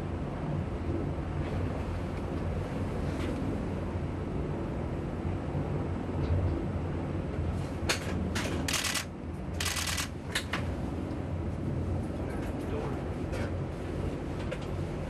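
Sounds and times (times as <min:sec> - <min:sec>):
helicopter rotors and engines droning: 0:00.0 - 0:15.0.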